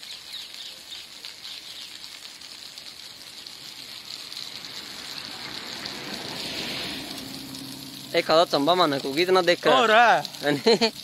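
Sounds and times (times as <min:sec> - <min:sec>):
water falling like rain: 0:00.0 - 0:11.0
water spraying from valve: 0:00.0 - 0:11.0.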